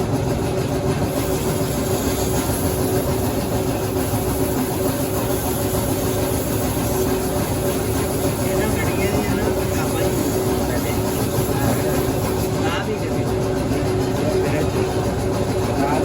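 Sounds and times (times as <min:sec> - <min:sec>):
engine humming steadily: 0:00.0 - 0:16.0.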